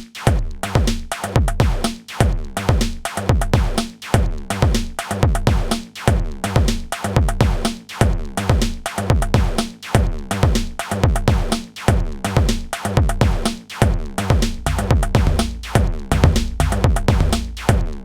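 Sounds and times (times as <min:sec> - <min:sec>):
electronic drum beat: 0:00.0 - 0:18.0.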